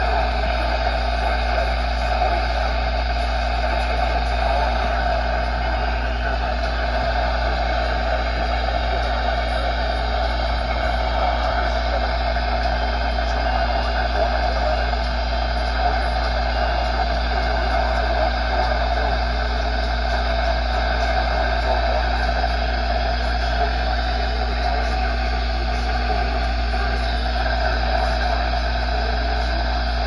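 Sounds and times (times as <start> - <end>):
low hum: 0.0 - 30.0
radio static hiss: 0.0 - 30.0.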